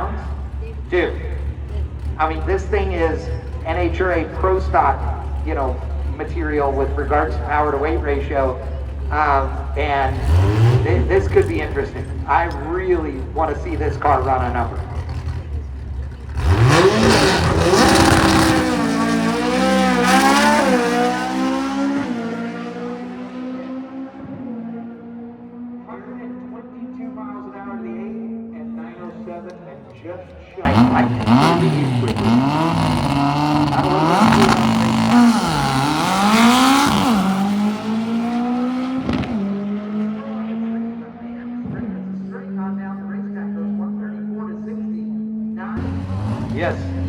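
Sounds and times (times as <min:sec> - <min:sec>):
race car accelerating: 0:00.0 - 0:47.0.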